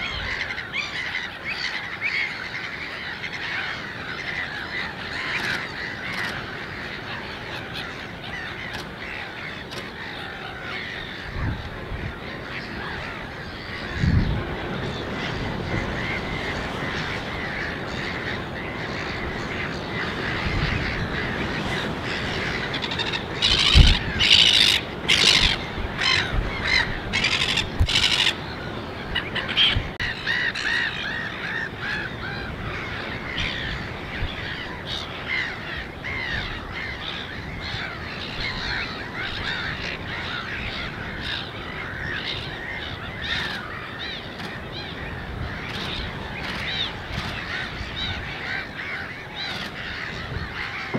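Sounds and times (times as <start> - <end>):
flock of birds calling: 0.0 - 50.9.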